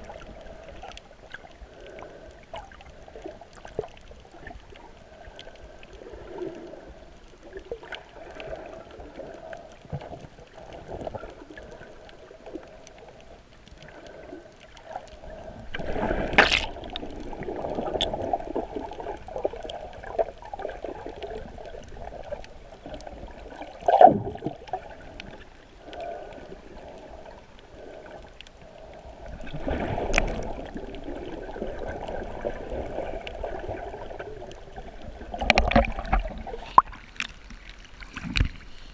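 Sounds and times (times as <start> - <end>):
rushes of water: 0.0 - 38.9
water swishing and gurgling underwater: 0.0 - 38.9.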